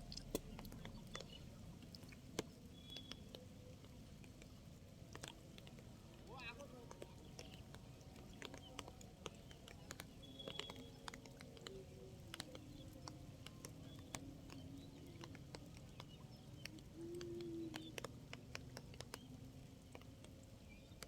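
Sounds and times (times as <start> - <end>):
faint irregular clicks and taps: 0.0 - 21.0.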